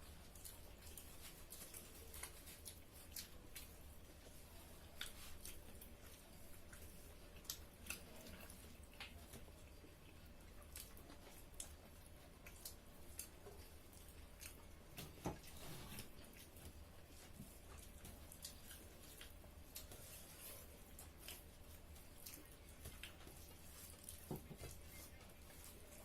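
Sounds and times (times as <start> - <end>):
chewing and mouth smacking: 0.0 - 26.0.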